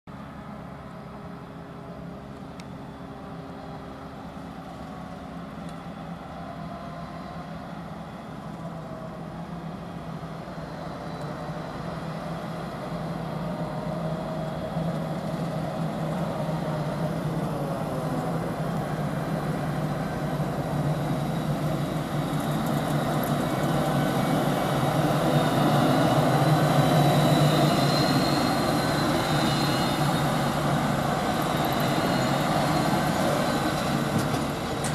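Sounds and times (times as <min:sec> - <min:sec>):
heavy farm machinery engines: 0:00.1 - 0:34.9.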